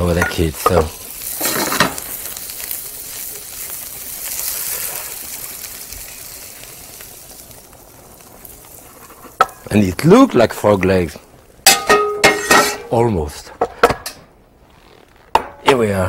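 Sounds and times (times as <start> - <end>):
chicken sizzling in a skillet: 0.0 - 12.9.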